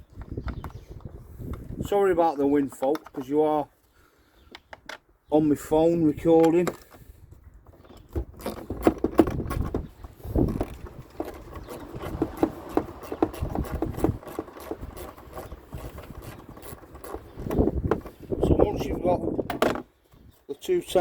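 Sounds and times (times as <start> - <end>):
wind buffeting microphone: 0.0 - 2.6, 5.6 - 21.0.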